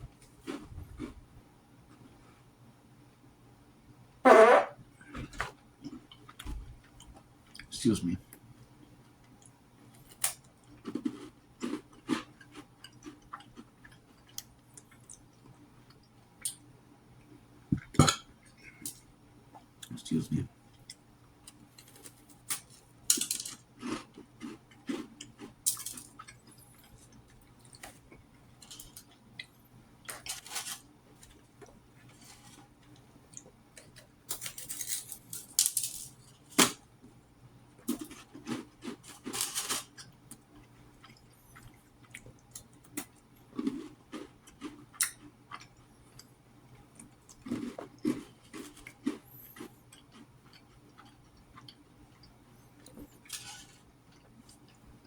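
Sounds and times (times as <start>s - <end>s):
chewing and crunching crackers: 0.2s - 1.3s, 8.3s - 55.0s.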